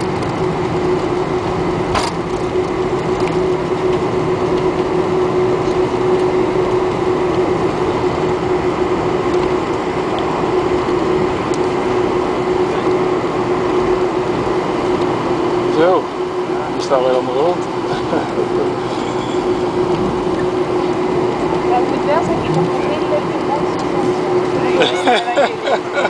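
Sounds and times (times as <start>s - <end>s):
airplane cabin drone: 0.0s - 26.0s.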